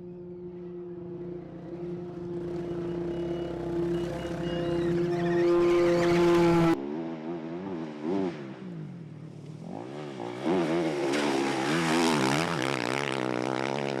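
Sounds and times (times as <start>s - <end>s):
engine revving: 0.8s - 14.0s.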